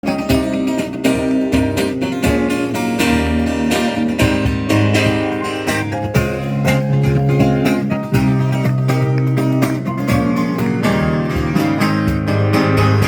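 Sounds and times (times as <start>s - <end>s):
acoustic guitar strumming: 0.0s - 13.0s
low bass notes: 0.3s - 13.0s.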